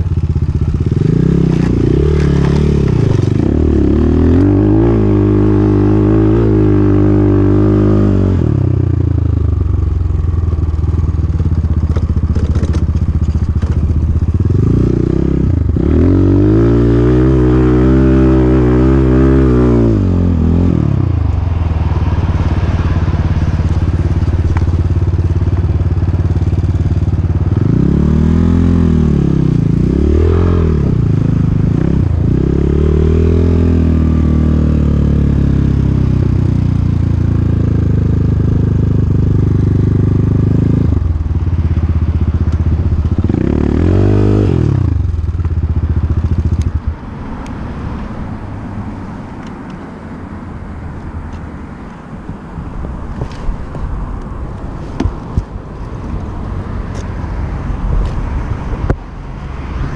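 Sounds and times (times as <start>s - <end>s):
motorcycle engine revving: 0.0s - 48.6s.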